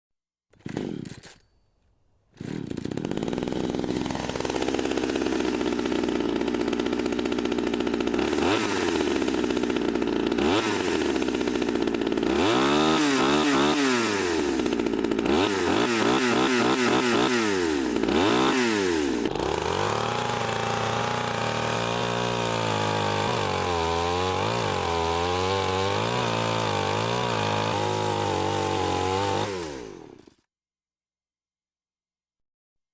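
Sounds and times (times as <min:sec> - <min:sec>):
chainsaw engine revving: 0:00.5 - 0:01.5, 0:02.3 - 0:30.4.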